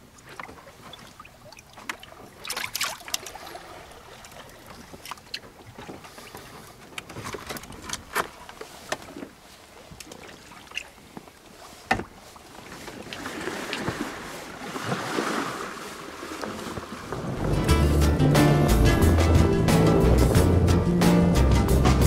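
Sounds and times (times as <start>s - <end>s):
sea and wind: 0.0s - 19.2s.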